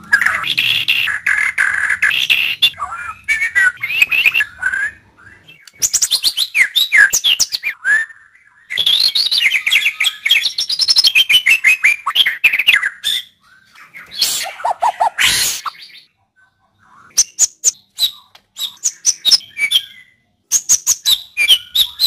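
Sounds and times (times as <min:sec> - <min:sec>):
bird singing whistles and chatter: 0:00.0 - 0:16.1, 0:16.9 - 0:22.0.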